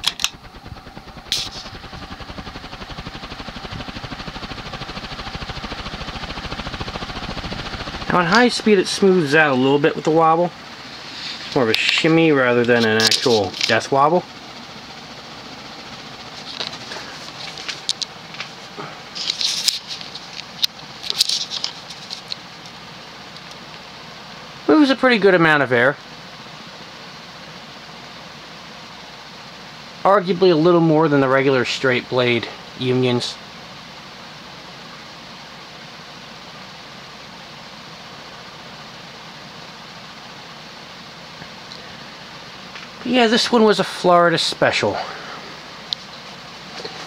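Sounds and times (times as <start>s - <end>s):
ceiling fan spinning: 0.0s - 47.0s.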